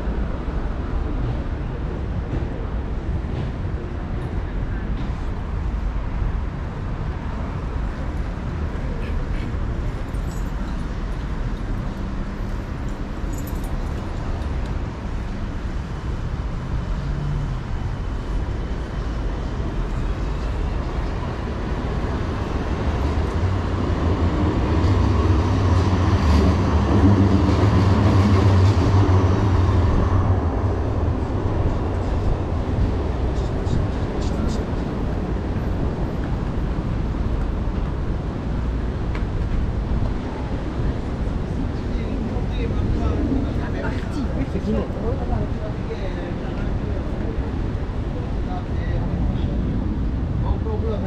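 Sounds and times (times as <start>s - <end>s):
city street traffic: 0.0s - 51.0s
heavy vehicle engine drone: 0.0s - 51.0s.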